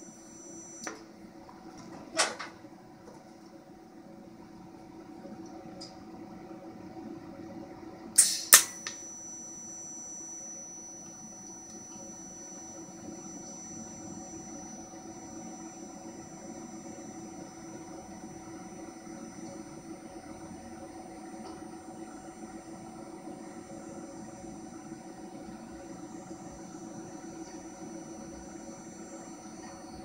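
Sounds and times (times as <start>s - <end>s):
welding arc whine and hum: 0.0s - 30.0s.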